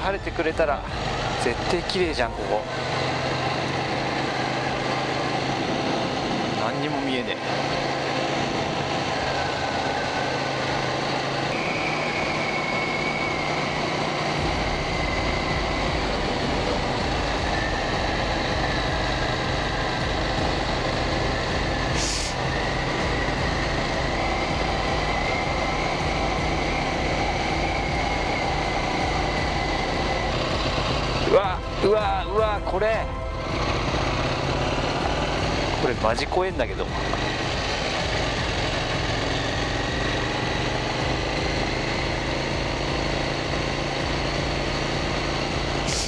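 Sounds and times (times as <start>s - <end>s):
motorcycle engine running: 0.0s - 46.0s
road and wind noise: 0.0s - 46.0s.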